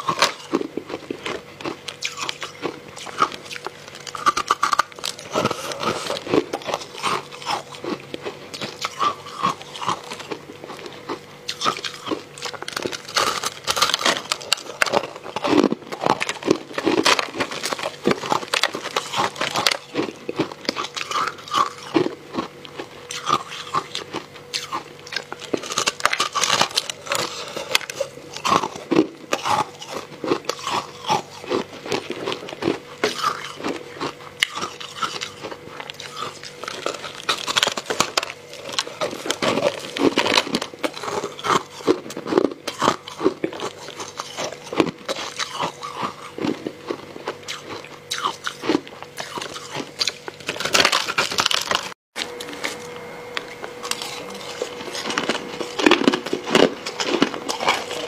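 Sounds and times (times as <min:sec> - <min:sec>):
chewing ice crunches: 0:00.0 - 0:52.8, 0:53.4 - 0:58.0.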